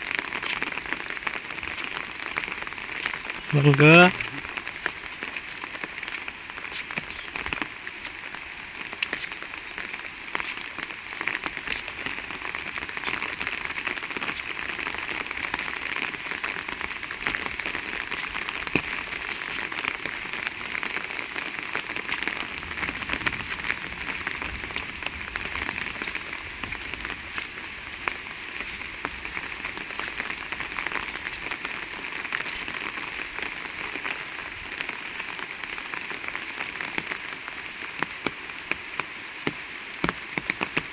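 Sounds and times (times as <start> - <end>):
heavy rain hissing: 0.0 - 40.9
raindrops ticking close by: 0.0 - 40.9.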